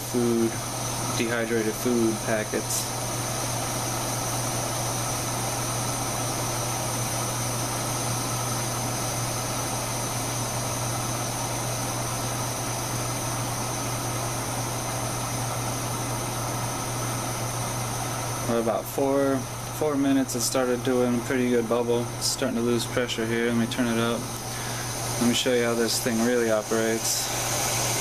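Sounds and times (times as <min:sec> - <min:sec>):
camping stove burning: 0:00.0 - 0:28.0
water boiling in a pot: 0:00.0 - 0:28.0.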